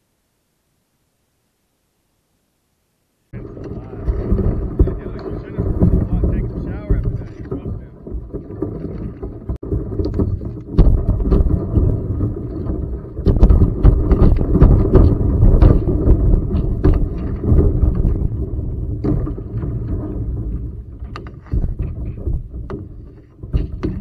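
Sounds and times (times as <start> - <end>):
kayak cracking through ice: 3.4 - 24.0.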